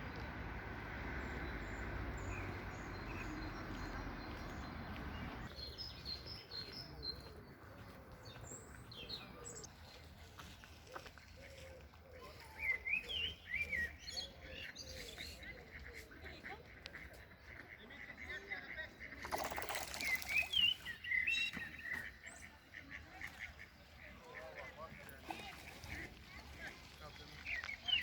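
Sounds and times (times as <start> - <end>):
small birds chirping: 1.2 - 28.0.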